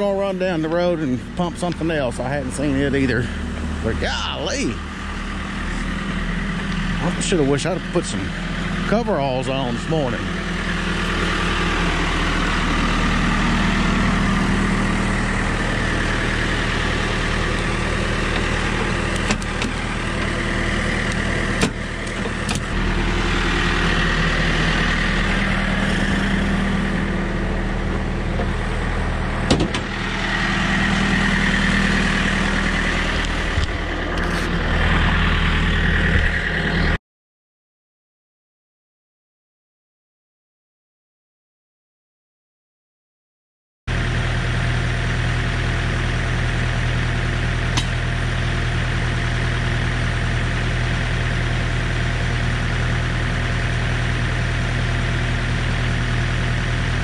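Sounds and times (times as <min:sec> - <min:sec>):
engine idling: 0:00.0 - 0:37.0, 0:43.9 - 0:57.0.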